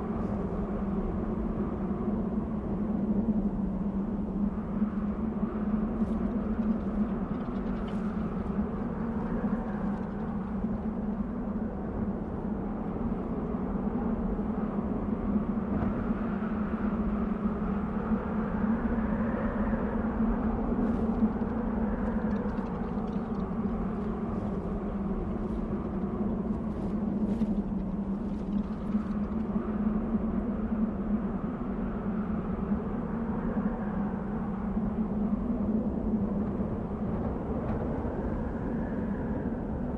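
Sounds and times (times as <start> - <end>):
wind howling and whistling: 0.0 - 39.9.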